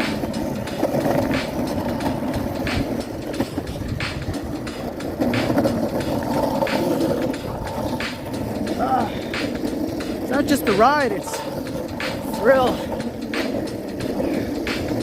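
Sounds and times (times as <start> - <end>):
longboard wheels rolling on pavement: 0.0 - 15.0
wheels clacking over sidewalk joints: 0.0 - 15.0.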